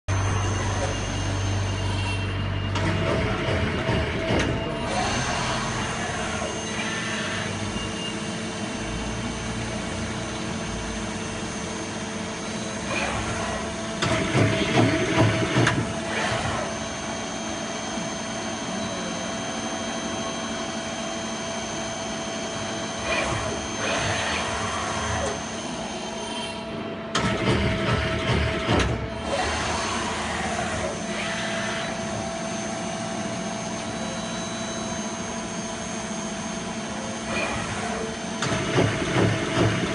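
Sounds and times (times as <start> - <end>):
lathe running with high whine: 0.1 - 27.2, 29.1 - 39.9.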